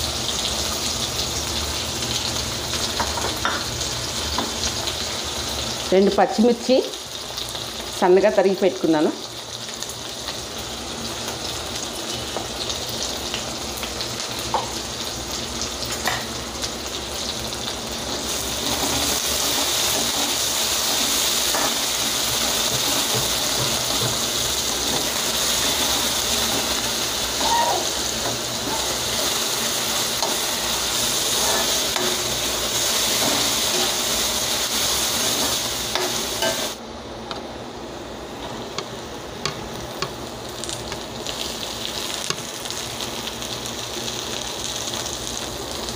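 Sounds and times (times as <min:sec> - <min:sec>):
vegetables sizzling in hot oil: 0:00.0 - 0:36.8, 0:37.9 - 0:45.9.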